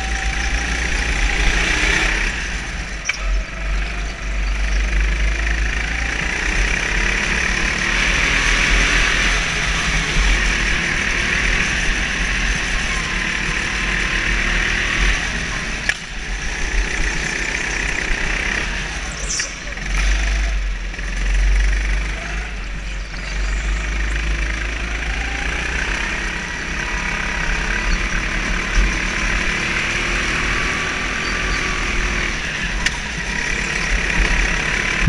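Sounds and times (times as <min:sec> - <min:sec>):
go-kart engine: 0:00.0 - 0:35.0
vibration and wind rumble: 0:00.0 - 0:35.0.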